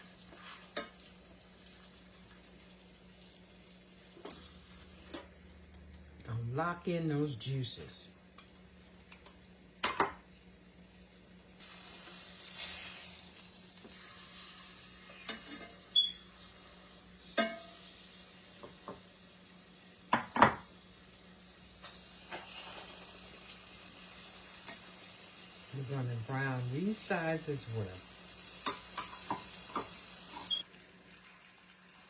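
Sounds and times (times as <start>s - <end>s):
meat searing in hot oil: 0.0s - 32.0s.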